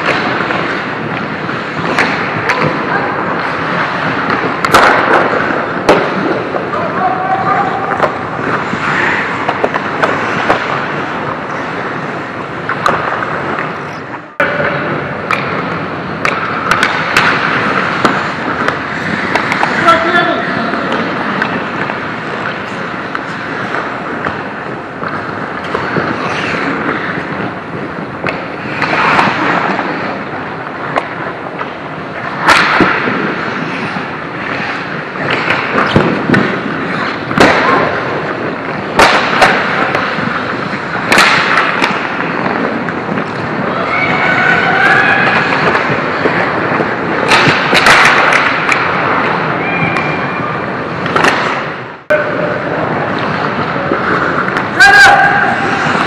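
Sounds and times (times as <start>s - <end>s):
skate blades scraping ice: 0.0s - 56.0s
sticks and puck cracking: 0.0s - 56.0s.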